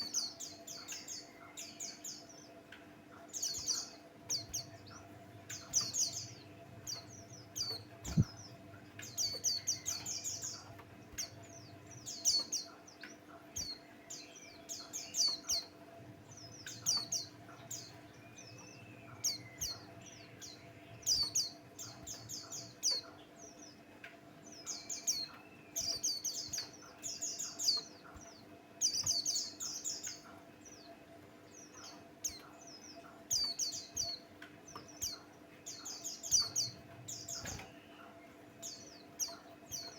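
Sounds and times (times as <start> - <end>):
bird chirping: 0.0 - 39.9
faint steady hum: 0.0 - 39.9.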